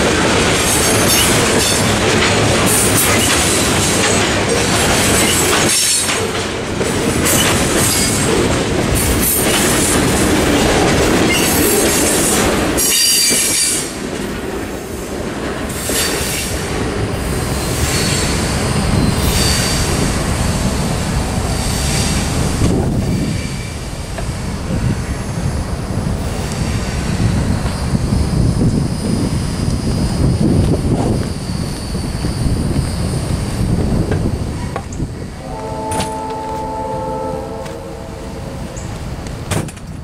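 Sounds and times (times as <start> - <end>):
freight train rolling past: 0.0 - 40.0.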